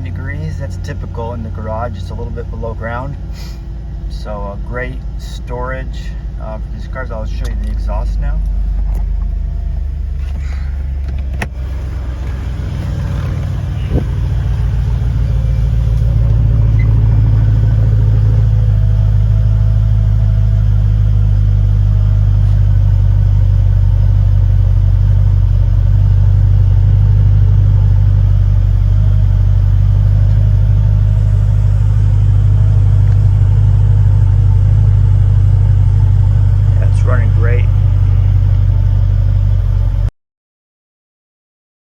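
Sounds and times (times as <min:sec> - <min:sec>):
car engine idling: 0:00.0 - 0:40.1.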